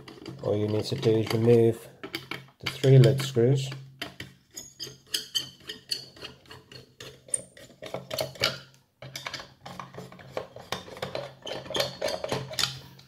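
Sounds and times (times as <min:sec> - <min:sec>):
small metal clicks and scrapes: 0:00.0 - 0:13.0.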